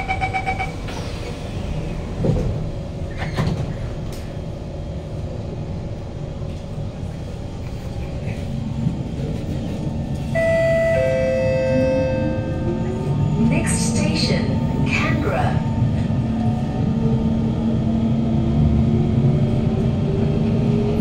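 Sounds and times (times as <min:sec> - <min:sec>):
standing train rumble: 0:00.0 - 0:21.0
train inverter whine: 0:00.0 - 0:21.0.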